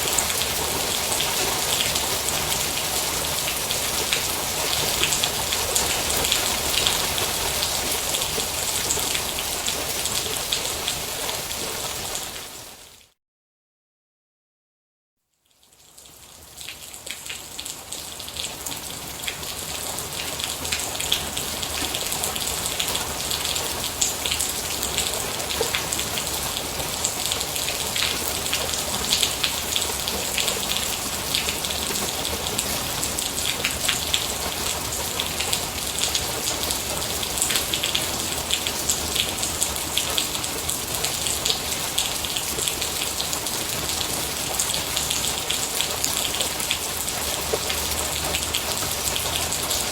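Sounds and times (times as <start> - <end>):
rain falling on a surface: 0.0 - 13.1, 15.3 - 49.9.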